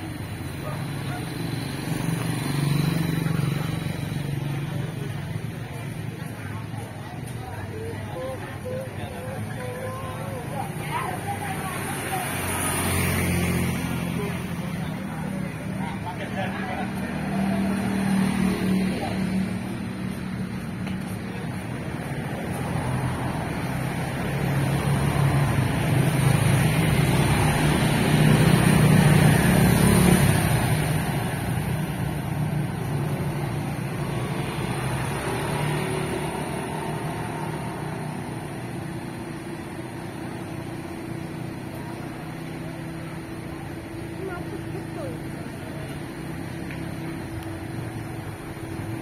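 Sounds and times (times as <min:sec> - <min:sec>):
cars passing: 0:00.0 - 0:49.0
motorbikes passing: 0:00.0 - 0:49.0.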